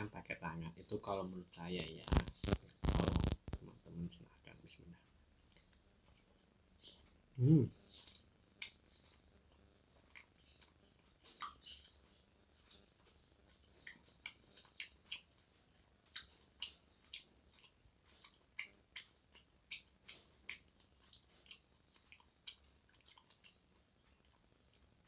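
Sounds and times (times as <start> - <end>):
man chewing food: 1.7 - 3.7, 5.0 - 25.0.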